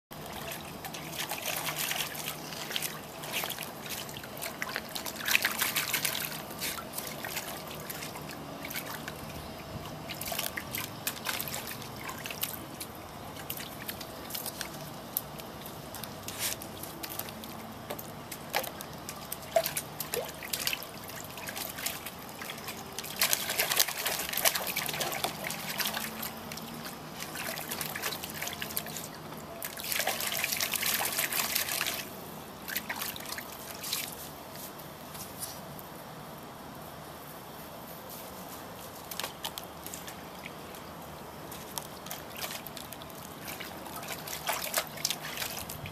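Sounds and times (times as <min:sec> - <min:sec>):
hose water trickling into tub: 0:00.1 - 0:34.7, 0:39.0 - 0:45.9
dog splashing in water: 0:00.2 - 0:34.2, 0:41.5 - 0:45.9.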